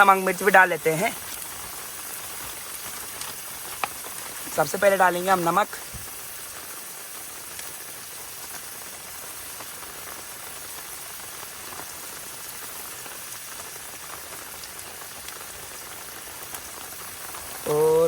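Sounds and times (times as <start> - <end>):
heavy rain hissing: 0.0 - 18.0
raindrop ticks: 0.0 - 18.0.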